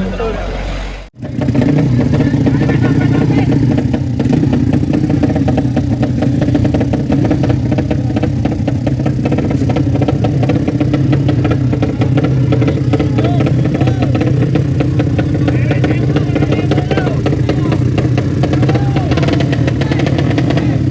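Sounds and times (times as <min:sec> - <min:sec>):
motorcycle engine idling and revving: 0:01.0 - 0:20.9.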